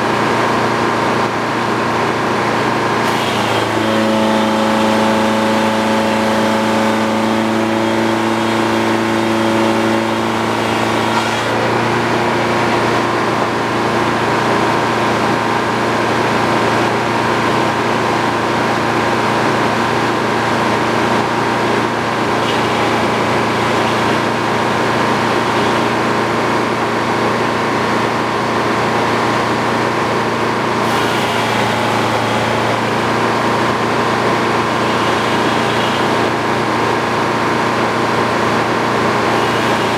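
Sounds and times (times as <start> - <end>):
sawmill sawing: 0.0 - 39.9.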